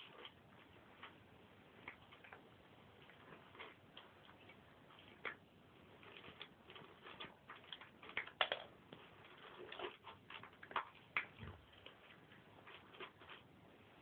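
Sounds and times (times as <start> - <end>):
cats chewing food: 0.0 - 14.0.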